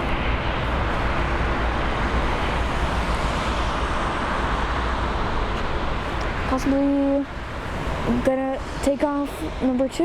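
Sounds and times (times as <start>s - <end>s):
deep low rumble: 0.0s - 8.9s
jet engines running: 0.0s - 10.0s.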